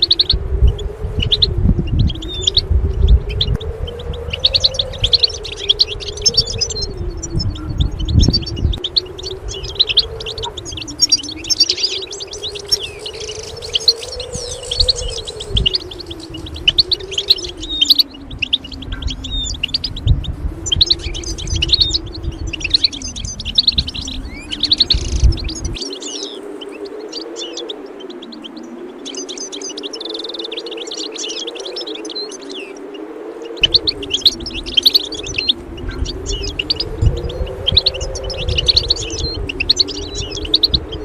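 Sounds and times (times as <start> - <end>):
low wavering hum: 0.0 - 41.0.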